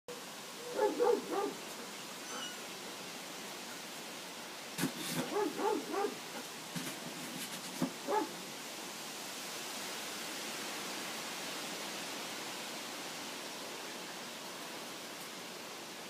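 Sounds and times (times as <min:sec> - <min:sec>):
steady hiss: 0:00.1 - 0:16.0.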